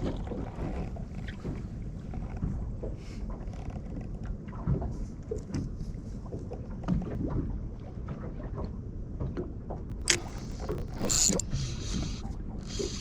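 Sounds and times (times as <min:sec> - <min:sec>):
water slapping against boat hull: 0:00.0 - 0:12.1.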